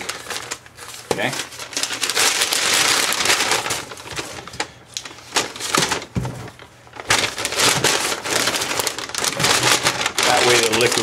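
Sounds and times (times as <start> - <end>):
paper bag rustling and crinkling: 0.0 - 11.0.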